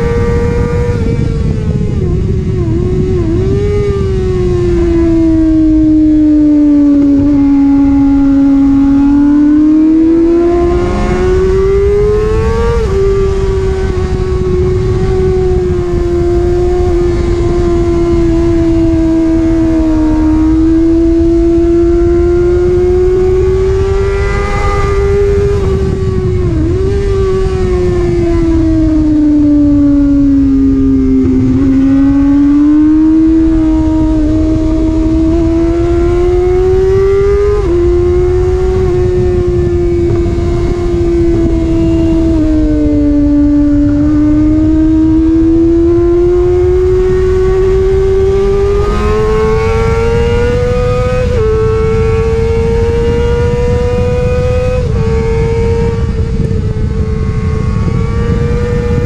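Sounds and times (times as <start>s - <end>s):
motorcycle engine at high revs: 0.0s - 59.0s
wind noise on microphone: 0.0s - 59.0s.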